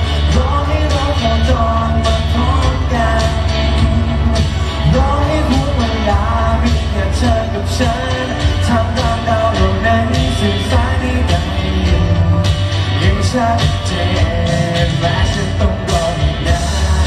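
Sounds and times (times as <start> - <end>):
man singing into microphone: 0.0 - 17.0
pop backing track with heavy bass: 0.0 - 17.0.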